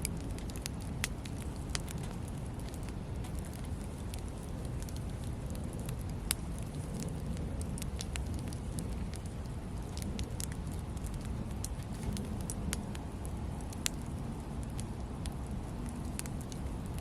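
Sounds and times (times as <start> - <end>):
fire crackling and popping: 0.0 - 17.0
rush of flames: 0.0 - 17.0.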